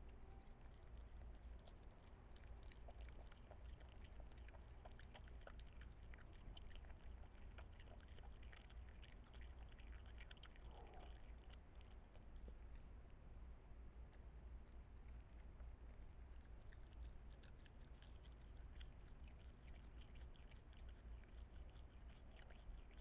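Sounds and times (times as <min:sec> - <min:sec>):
animal chewing clicks: 0:00.0 - 0:13.2, 0:14.0 - 0:23.0.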